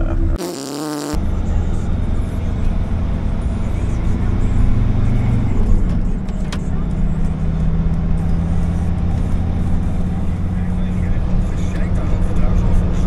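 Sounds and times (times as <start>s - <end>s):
van engine hum: 0.0s - 13.0s.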